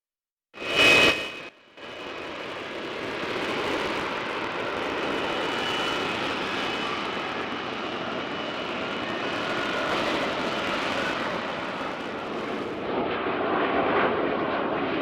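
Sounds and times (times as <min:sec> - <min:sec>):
faint high whine: 0:00.6 - 0:12.8
aircraft engine flying past: 0:00.6 - 0:15.0.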